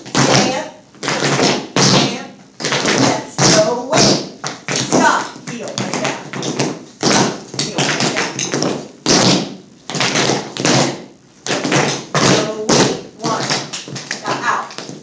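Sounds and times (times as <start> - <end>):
tap shoes on hard floor: 0.0 - 15.0.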